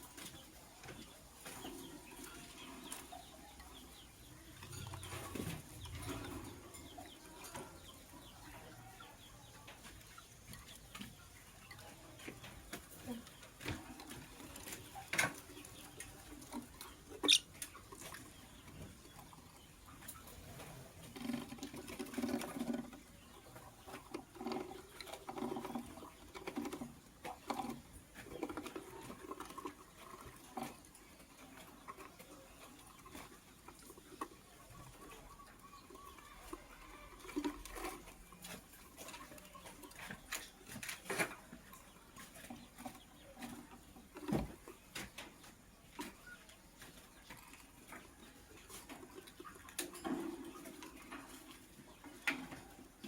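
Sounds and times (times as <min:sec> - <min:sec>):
bird pecking and scratching in cage: 0:00.0 - 0:53.0.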